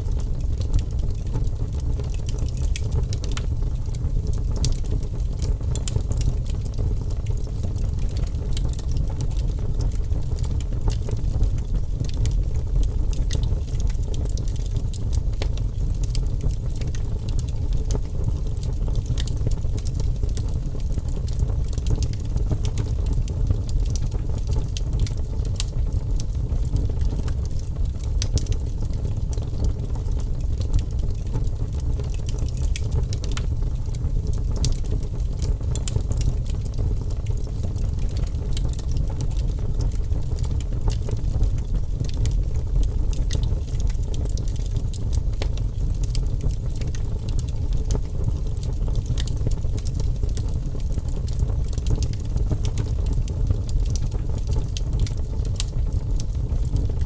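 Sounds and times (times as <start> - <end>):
fire crackling and popping: 0.0 - 57.0
fire flames rumbling: 0.0 - 57.0.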